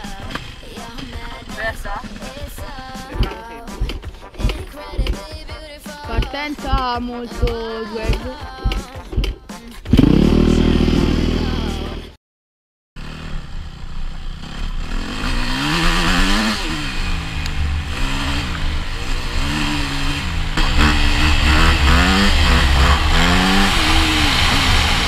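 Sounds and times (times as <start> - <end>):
dirt bike engine revving: 0.0 - 8.9, 9.9 - 12.1, 13.0 - 25.0.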